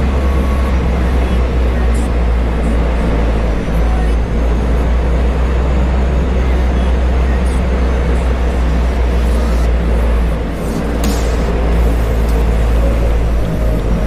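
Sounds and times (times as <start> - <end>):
seaplane engines droning: 0.0 - 14.0.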